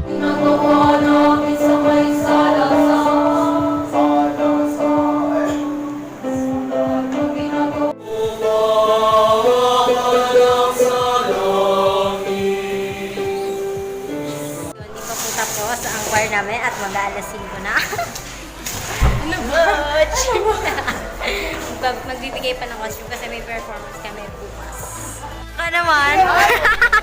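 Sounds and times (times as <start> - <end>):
choir singing: 0.0 - 25.5.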